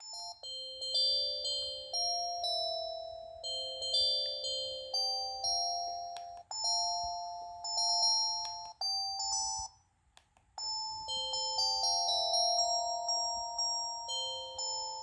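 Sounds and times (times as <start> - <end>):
phone ringtone melody: 0.0 - 9.8, 10.6 - 15.0.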